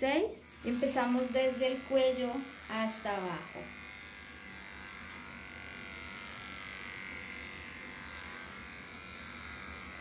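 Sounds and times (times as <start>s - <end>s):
electric clipper running: 0.0s - 10.0s.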